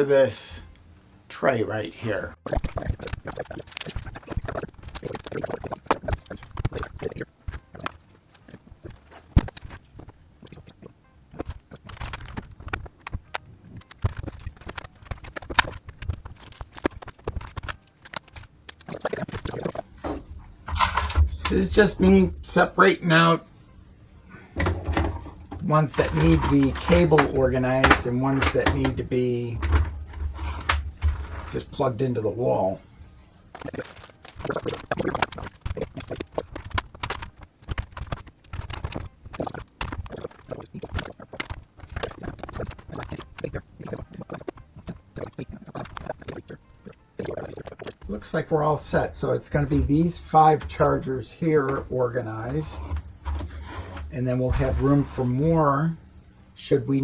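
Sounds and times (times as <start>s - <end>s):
chargers and cables clattering: 2.5s - 10.7s, 11.3s - 23.5s, 24.2s - 56.1s.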